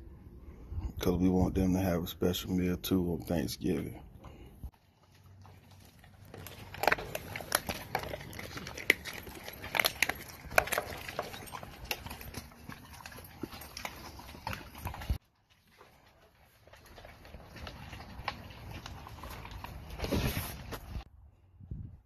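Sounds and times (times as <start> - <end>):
dog crunching kibble: 3.2 - 21.0.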